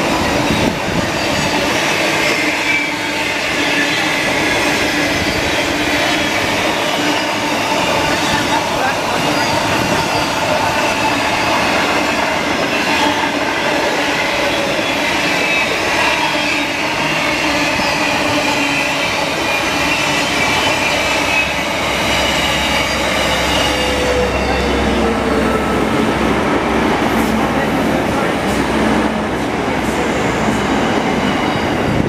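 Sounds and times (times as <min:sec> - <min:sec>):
diesel passenger train rumble: 0:00.0 - 0:32.0
freight train wheels rumbling: 0:00.0 - 0:32.0
high squealing of train wheels: 0:00.0 - 0:32.0.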